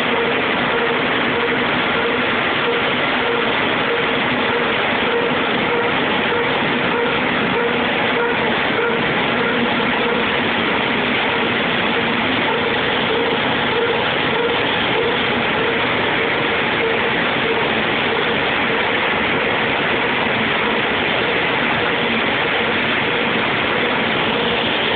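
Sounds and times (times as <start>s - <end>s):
faint steady hum: 0.0s - 24.9s
machine running steadily: 0.0s - 24.9s.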